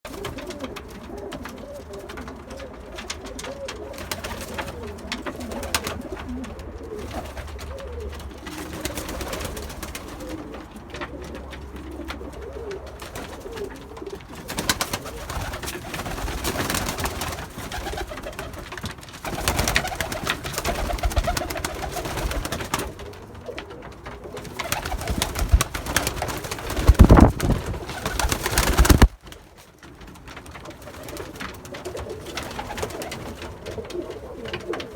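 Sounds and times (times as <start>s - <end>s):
pigeons cooing: 0.1s - 29.2s, 30.5s - 34.9s.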